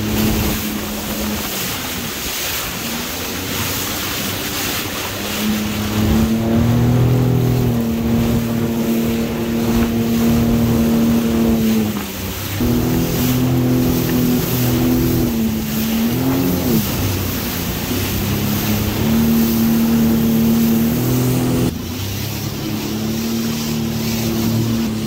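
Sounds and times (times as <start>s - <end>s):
watercraft engine running: 0.0s - 25.0s
wind and water rushing: 0.0s - 25.0s.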